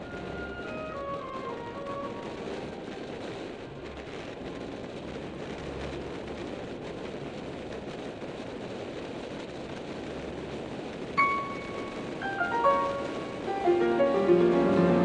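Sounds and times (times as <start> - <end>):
low wind buffeting rumbles: 0.0 - 15.0
tyre noise on asphalt: 0.0 - 15.0
wind rushing over microphone: 0.0 - 15.0.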